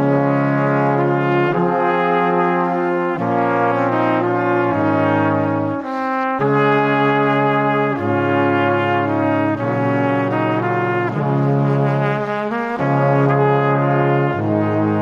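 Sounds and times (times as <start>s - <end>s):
brass-like chords music: 0.0s - 15.0s.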